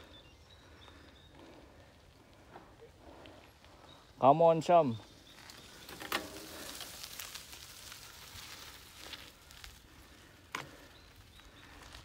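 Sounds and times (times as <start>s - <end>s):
bicycle tyres rolling on gravel: 0.0s - 12.0s.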